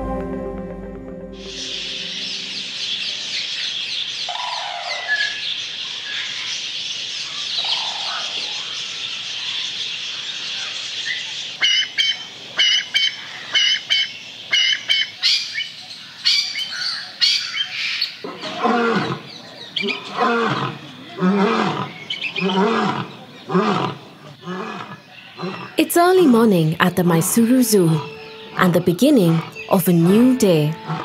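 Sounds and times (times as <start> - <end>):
birds chirping and twittering: 1.4 - 31.0.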